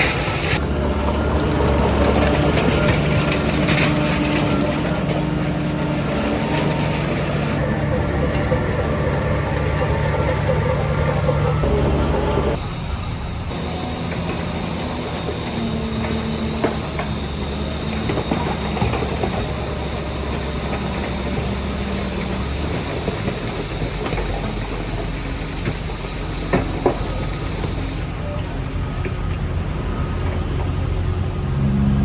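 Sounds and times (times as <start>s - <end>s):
metal clanks: 0.0s - 27.9s
heavy diesel engine running: 0.0s - 32.0s.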